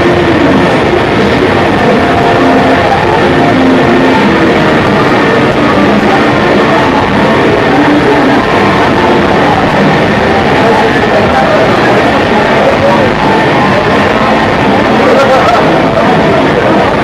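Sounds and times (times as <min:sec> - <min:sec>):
music: 0:00.0 - 0:17.0
traffic: 0:00.0 - 0:17.0.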